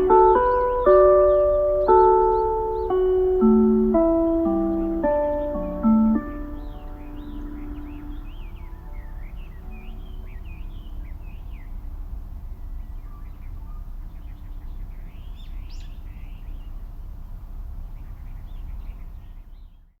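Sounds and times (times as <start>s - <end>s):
low outdoor rumble: 0.0s - 19.9s
small birds chirping: 0.0s - 20.0s.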